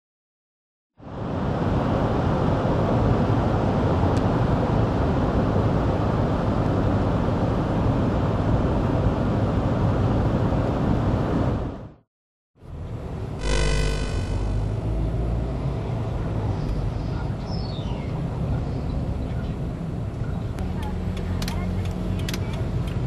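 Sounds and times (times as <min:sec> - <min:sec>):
car road and engine noise: 0:01.1 - 0:11.6, 0:14.5 - 0:23.0.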